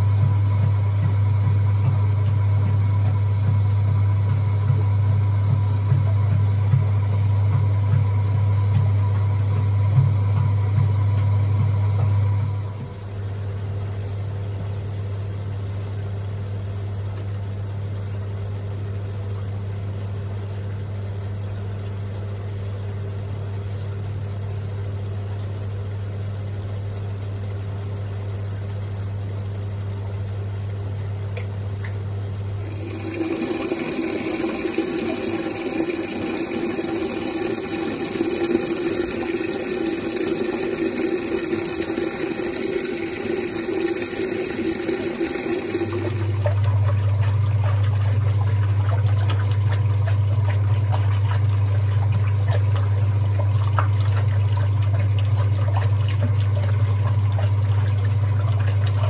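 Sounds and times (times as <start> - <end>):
drain pump humming: 0.0 - 59.0.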